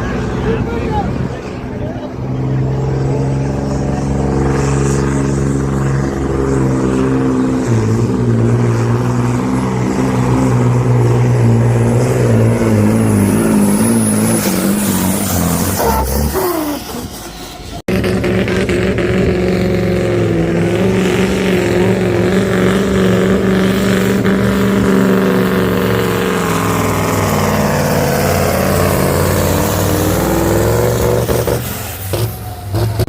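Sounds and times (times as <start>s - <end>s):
diesel truck engine under load: 0.0s - 33.0s.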